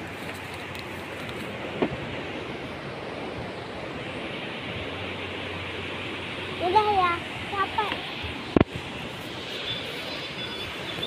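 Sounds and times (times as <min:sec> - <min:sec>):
breaking surf: 0:00.0 - 0:11.0
wind: 0:00.0 - 0:11.0.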